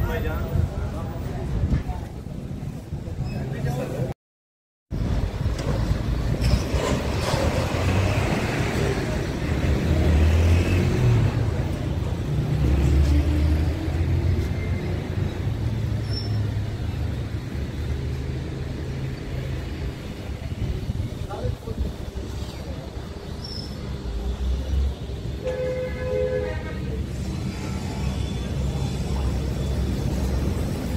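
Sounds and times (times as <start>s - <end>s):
vehicles passing: 5.0s - 30.9s.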